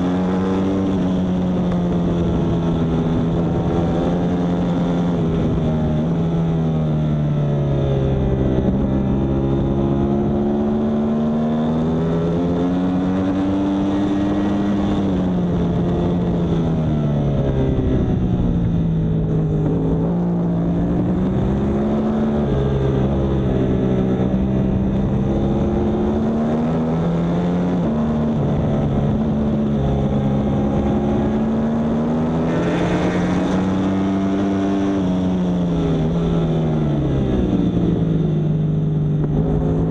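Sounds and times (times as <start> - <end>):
motorcycle engine revving at racing speed: 0.0 - 39.9.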